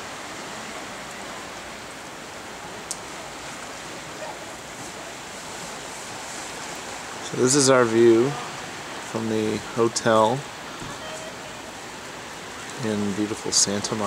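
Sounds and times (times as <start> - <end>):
rushing seaside surf or wind: 0.0 - 14.0.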